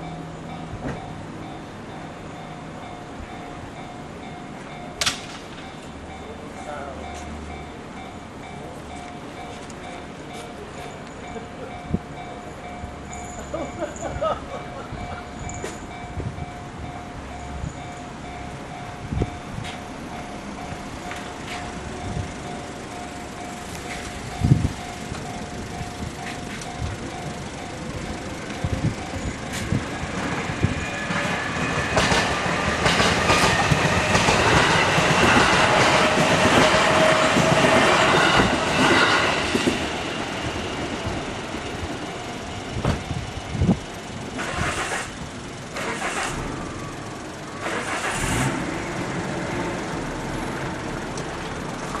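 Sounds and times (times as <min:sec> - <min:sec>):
train wheels whining on rails: 0:00.0 - 0:52.0.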